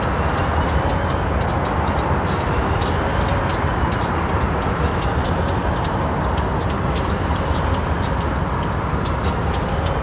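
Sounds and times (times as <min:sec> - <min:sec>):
diesel locomotive engine rumbling: 0:00.0 - 0:10.0
sharp ticks: 0:00.0 - 0:10.0.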